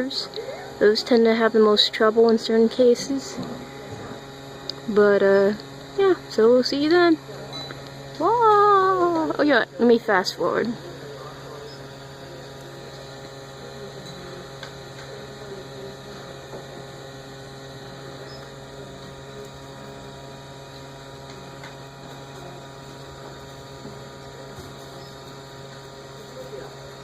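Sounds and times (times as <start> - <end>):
three d printer humming: 0.0 - 27.0.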